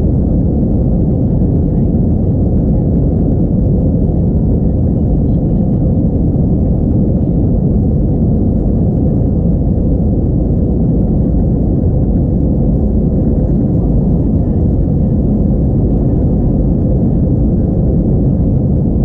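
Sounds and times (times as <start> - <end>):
jet engines droning: 0.0 - 19.0
rushing airflow: 0.0 - 19.0.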